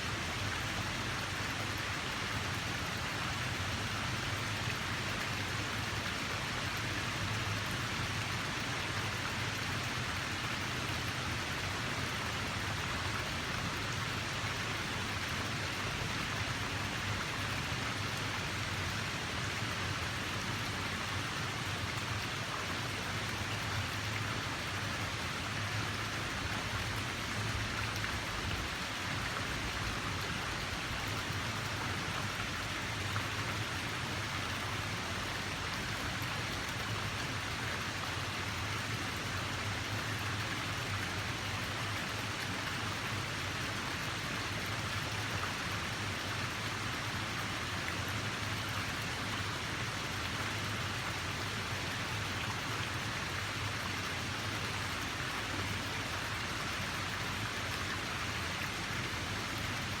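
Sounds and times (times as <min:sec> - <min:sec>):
flowing water rushing: 0:00.0 - 1:00.0.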